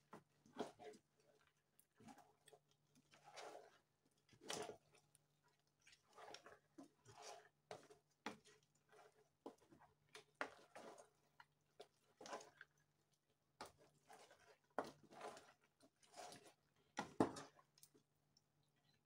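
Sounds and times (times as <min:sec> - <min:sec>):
spoon stirring in metal pot: 0:00.1 - 0:18.5.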